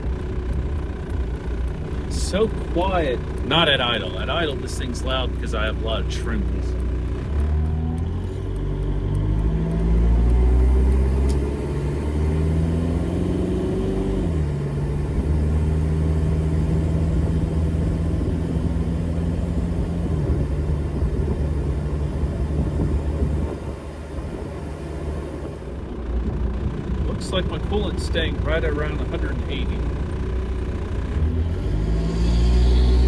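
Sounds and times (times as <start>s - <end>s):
diesel engine pulling: 0.0s - 33.0s.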